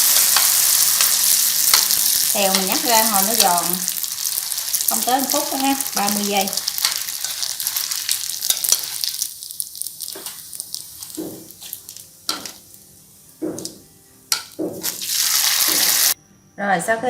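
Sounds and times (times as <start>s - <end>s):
rice paper sizzling in oil: 0.0s - 13.8s, 14.4s - 16.2s.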